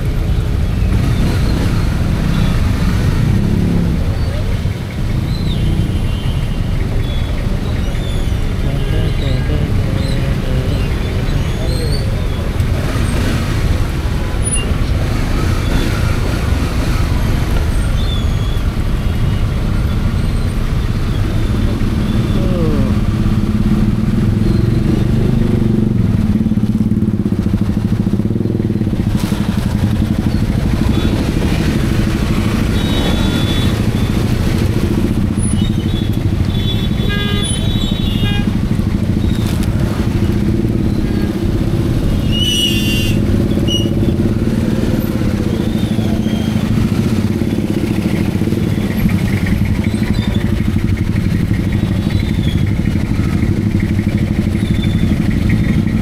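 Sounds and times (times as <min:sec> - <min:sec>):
motorcycle engine running: 0:00.0 - 0:56.0
traffic rumble: 0:00.0 - 0:56.0.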